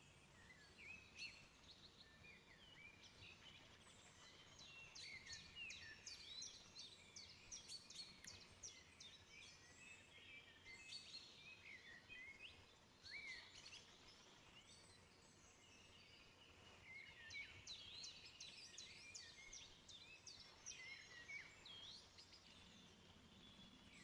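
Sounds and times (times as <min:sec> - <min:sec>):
faint birdsong chirps and whistles: 0:00.0 - 0:24.0.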